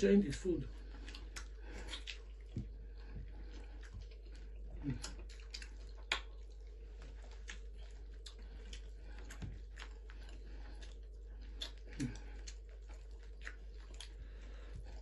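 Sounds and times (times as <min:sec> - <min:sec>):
chewing: 0:00.6 - 0:15.0.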